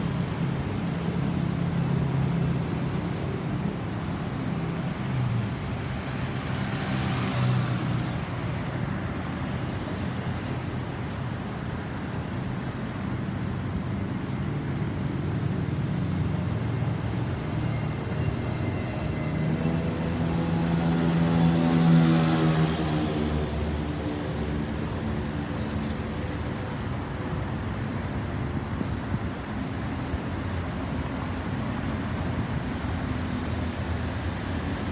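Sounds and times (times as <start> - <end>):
road traffic: 0.0 - 34.9.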